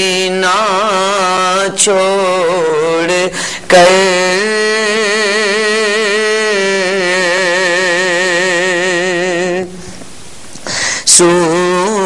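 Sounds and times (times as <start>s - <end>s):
man singing with vibrato: 0.0s - 9.8s, 10.8s - 12.0s.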